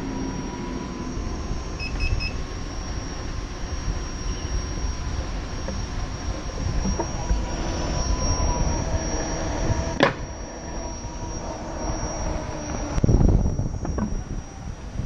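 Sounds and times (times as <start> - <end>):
faint steady whine: 0.0 - 15.0
wind buffeting microphone: 0.0 - 15.0.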